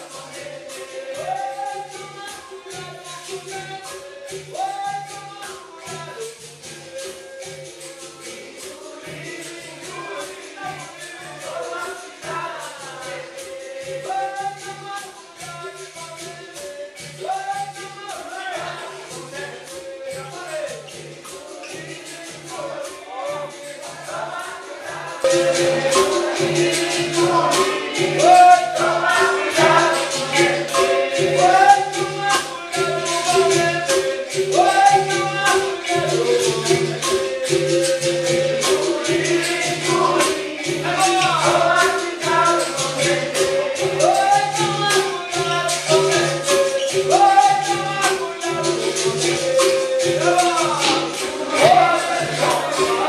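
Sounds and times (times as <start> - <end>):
berimbau: 0.0 - 53.0
group singing: 0.0 - 53.0
handclaps: 0.0 - 53.0
tambourines and hand drum: 0.0 - 53.0.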